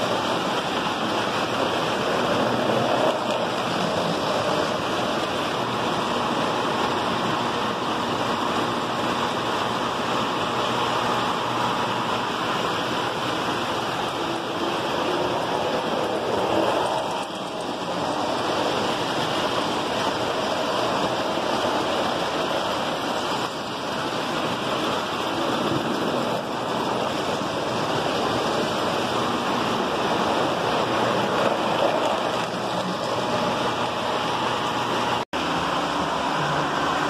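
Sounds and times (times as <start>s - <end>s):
model train wheels rumbling on rails: 0.0s - 37.0s.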